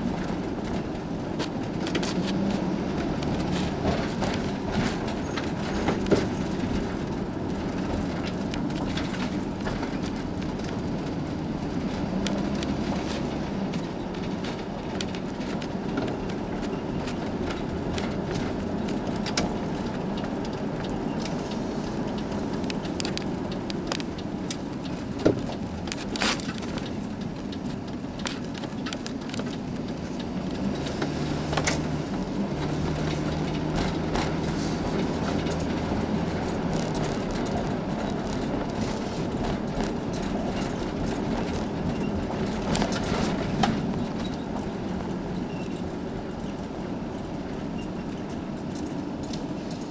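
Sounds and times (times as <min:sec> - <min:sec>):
light rattles and clicks: 0:00.0 - 0:49.9
road and engine rumble: 0:00.0 - 0:49.9.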